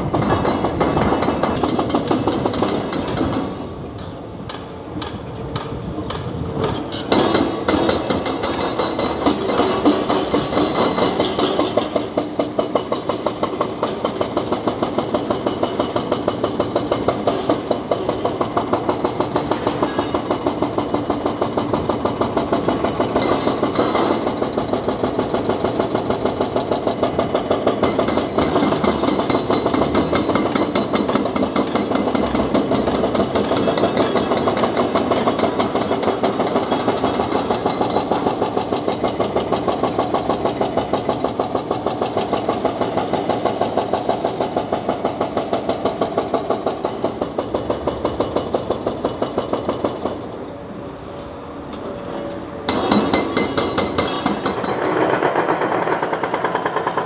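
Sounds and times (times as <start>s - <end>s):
hydraulic breaker hammering concrete: 0.0s - 50.4s, 52.6s - 57.0s.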